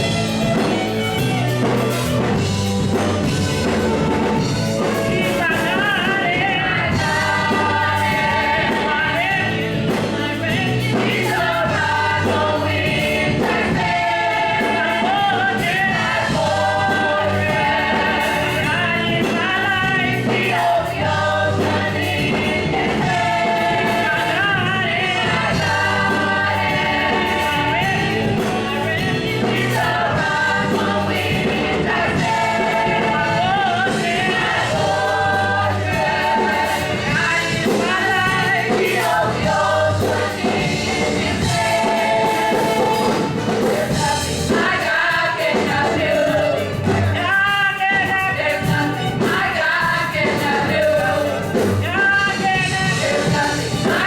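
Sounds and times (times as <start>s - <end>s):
gospel choir with live band: 0.0s - 54.0s.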